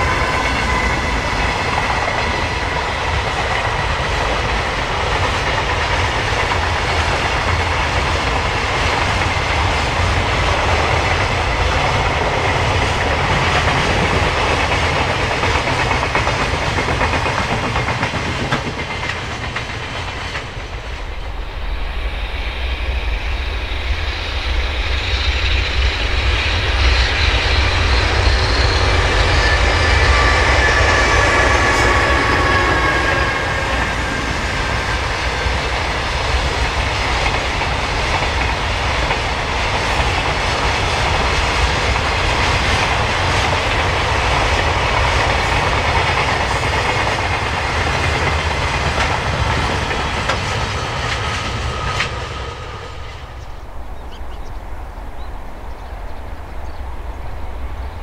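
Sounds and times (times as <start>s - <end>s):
electric locomotive whine: 0.0s - 58.0s.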